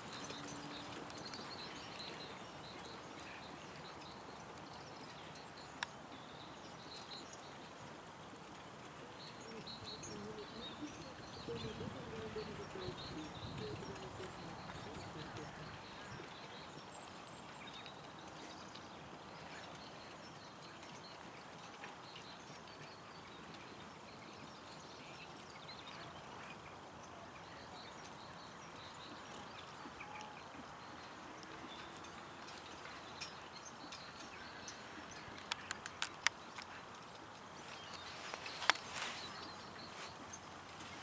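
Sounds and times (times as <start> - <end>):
horse trotting on grass: 0.0 - 25.4, 27.8 - 41.0
open-air background noise: 0.0 - 41.0.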